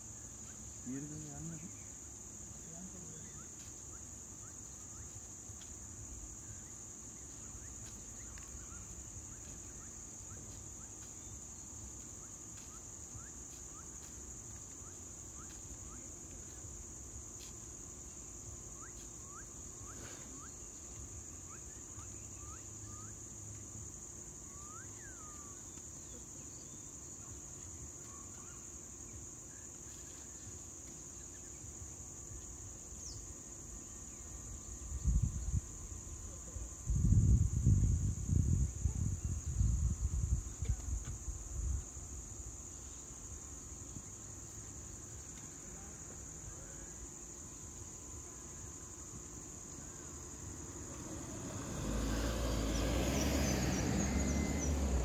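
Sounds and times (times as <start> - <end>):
insects droning: 0.0 - 55.0
low background hiss: 0.0 - 55.0.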